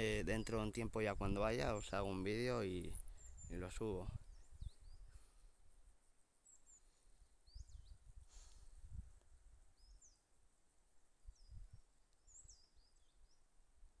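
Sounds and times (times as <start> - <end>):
small bird chirping: 0.0 - 13.6.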